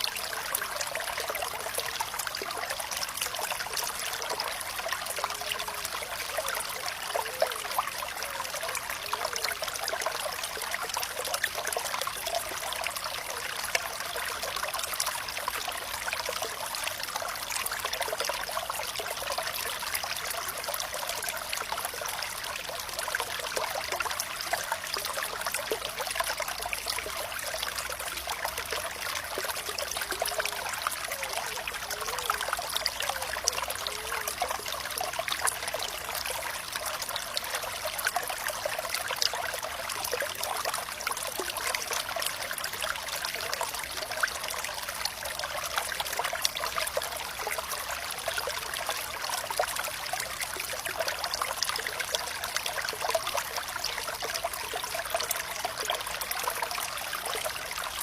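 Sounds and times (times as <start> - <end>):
water bubbling gurgles: 0.0 - 58.0
water flowing and trickling: 0.0 - 58.0.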